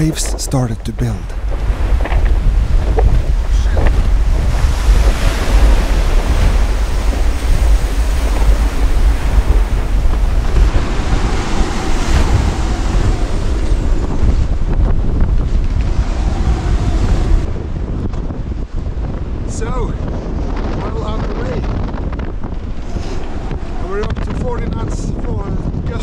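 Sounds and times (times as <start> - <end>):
waves breaking: 0.0 - 17.6, 20.5 - 24.4
wind buffeting microphone: 0.0 - 26.0.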